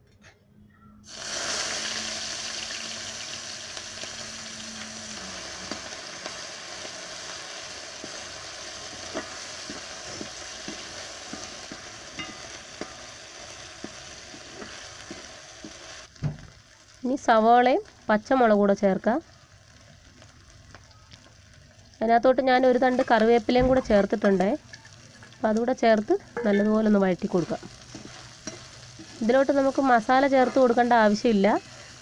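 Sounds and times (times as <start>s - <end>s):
food sizzling in hot oil: 1.0s - 32.0s.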